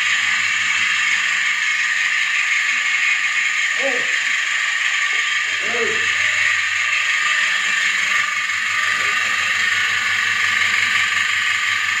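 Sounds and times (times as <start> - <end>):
milking machine vacuum pump: 0.0 - 12.0.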